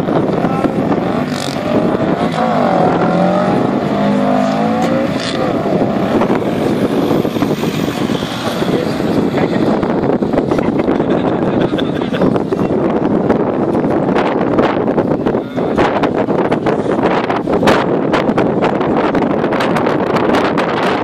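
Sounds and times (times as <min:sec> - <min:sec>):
drag car engine accelerating: 0:00.0 - 0:21.0
wind buffeting microphone: 0:00.0 - 0:21.0.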